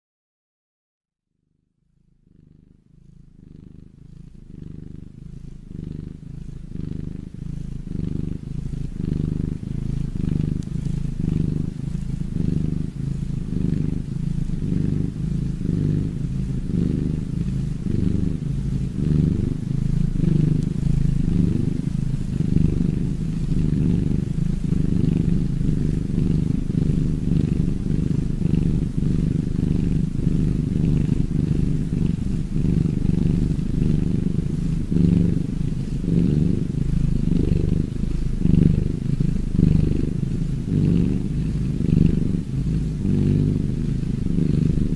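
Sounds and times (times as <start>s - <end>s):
cat purring: 1.8s - 44.9s.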